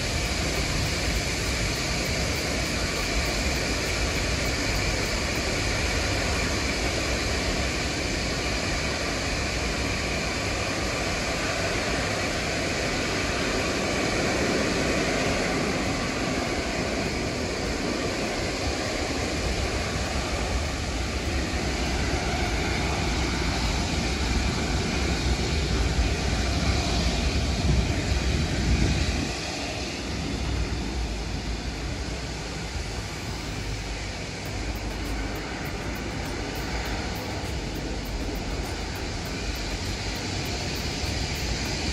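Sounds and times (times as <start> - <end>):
jet engines whining: 0.0 - 41.9.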